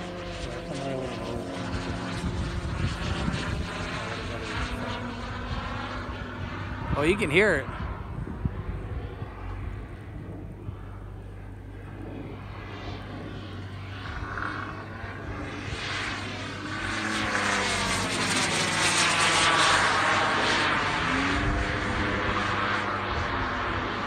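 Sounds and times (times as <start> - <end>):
model plane engine passing: 0.0 - 24.0.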